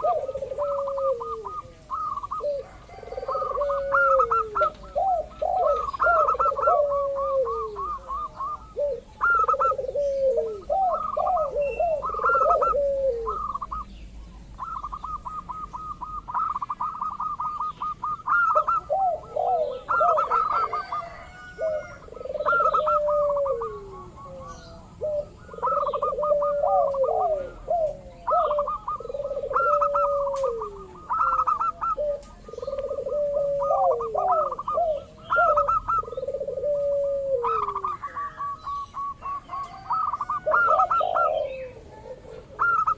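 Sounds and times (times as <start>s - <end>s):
doves cooing: 0.0s - 42.9s.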